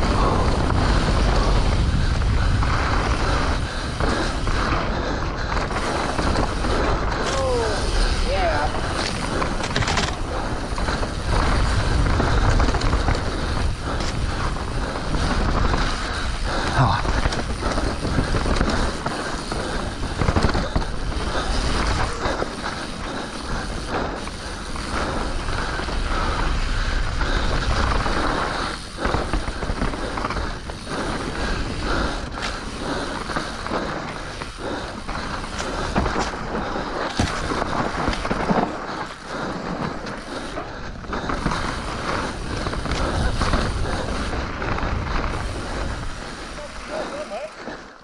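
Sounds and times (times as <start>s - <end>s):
bike rattling and clicking: 0.0s - 48.0s
bike tyres on dirt and stones: 0.0s - 48.0s.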